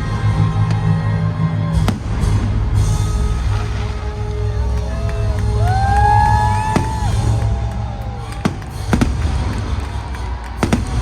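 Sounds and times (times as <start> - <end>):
firework bangs: 1.8 - 11.0.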